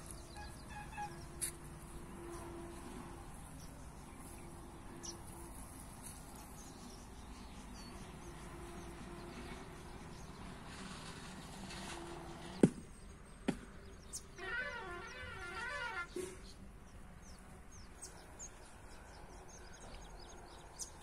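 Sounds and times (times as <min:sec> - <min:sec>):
faint outdoor ambience: 0:00.0 - 0:21.0.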